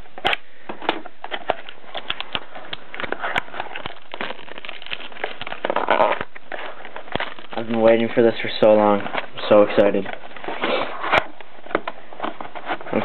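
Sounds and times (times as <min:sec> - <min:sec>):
packaging crackling and clicks: 0:00.0 - 0:13.0.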